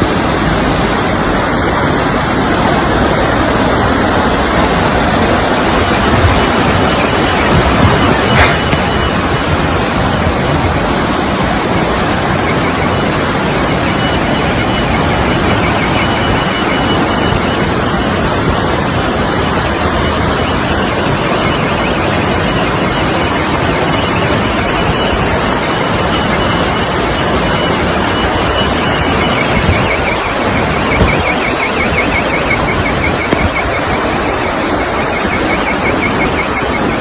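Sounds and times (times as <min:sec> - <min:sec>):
rushing floodwater: 0:00.0 - 0:37.0
torrential rain: 0:00.0 - 0:37.0.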